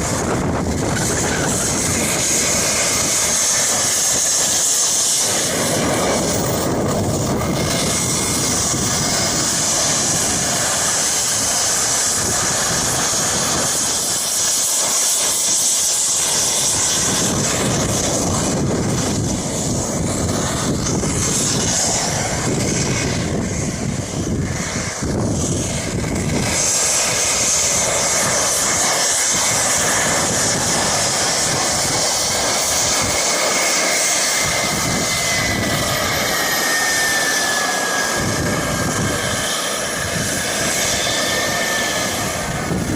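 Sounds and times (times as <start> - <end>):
jet turbine engine whine: 0.0 - 42.9.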